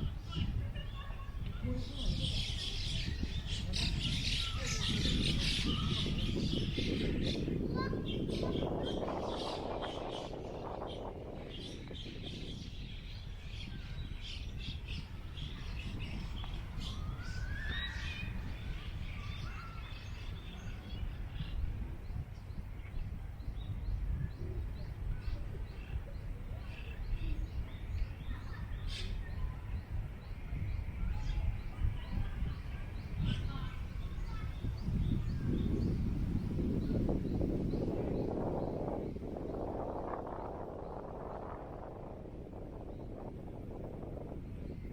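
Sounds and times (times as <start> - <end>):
small birds chirping: 0.0 - 44.9
wind rumbling on microphone: 0.0 - 44.9.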